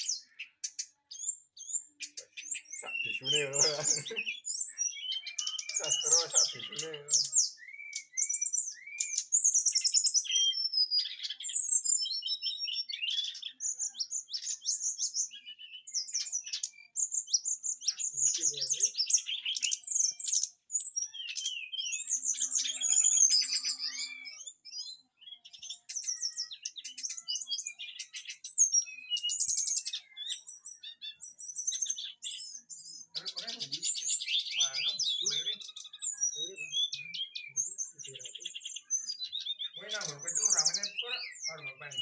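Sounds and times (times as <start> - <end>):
songbird singing chirps and trills: 0.0 - 42.0.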